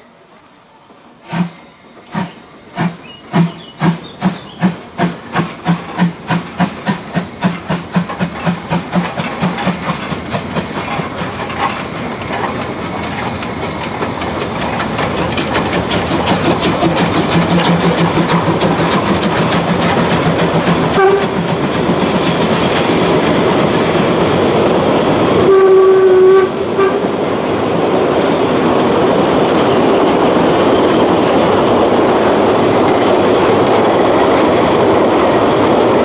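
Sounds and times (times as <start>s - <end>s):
steam locomotive chuffing: 1.1s - 36.0s.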